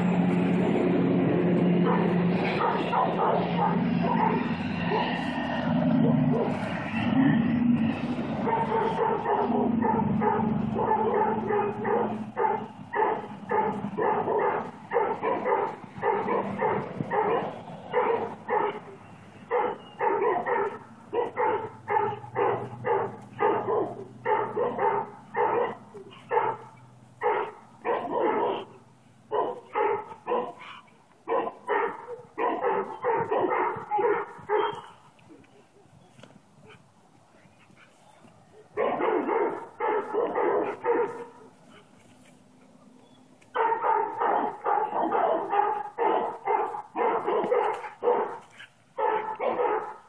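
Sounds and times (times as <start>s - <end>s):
dog barking: 1.8s - 7.1s, 8.3s - 35.0s, 38.6s - 41.9s, 43.5s - 50.0s.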